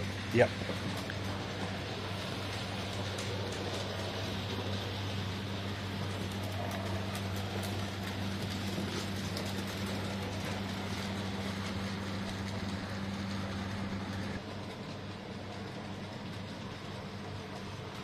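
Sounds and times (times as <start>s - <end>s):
electric motor hum: 0.0s - 14.6s
wheels clicking over track: 0.0s - 18.0s.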